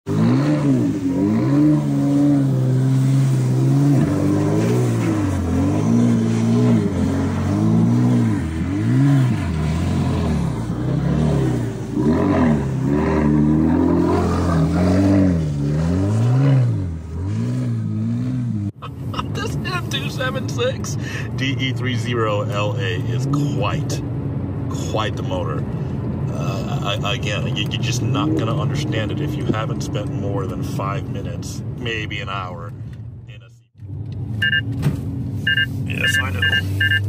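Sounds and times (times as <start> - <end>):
car engine revving: 0.0 - 32.5.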